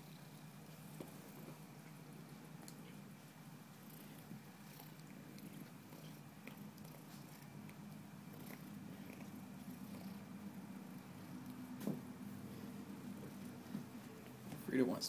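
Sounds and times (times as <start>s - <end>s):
cat purring: 0.0s - 14.5s.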